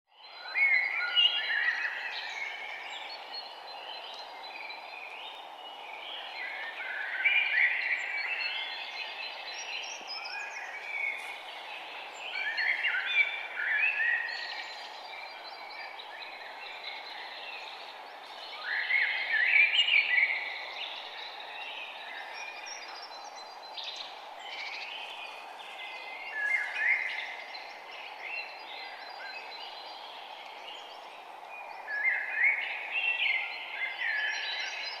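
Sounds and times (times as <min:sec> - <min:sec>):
songbirds singing: 0:00.1 - 0:35.0.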